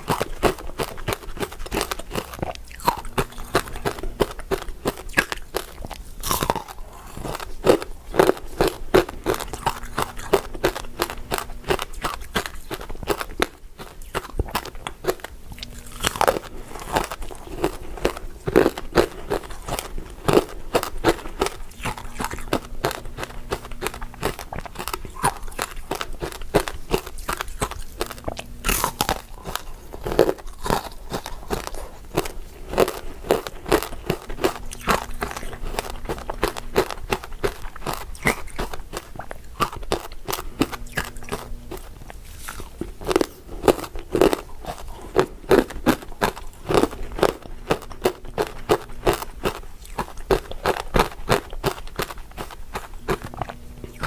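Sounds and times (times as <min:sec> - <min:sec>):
crunching and chewing ice: 0:00.0 - 0:54.0.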